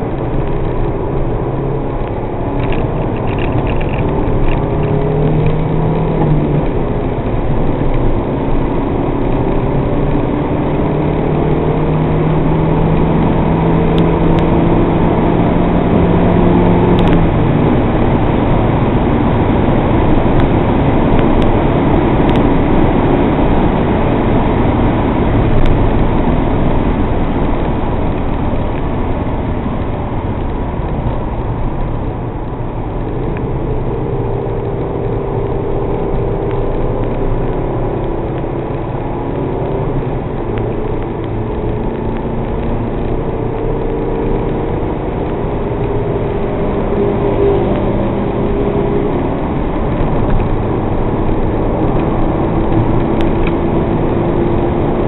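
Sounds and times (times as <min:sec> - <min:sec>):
car engine under load: 0:00.0 - 0:55.0
road roar: 0:00.0 - 0:55.0
wind noise: 0:00.0 - 0:55.0.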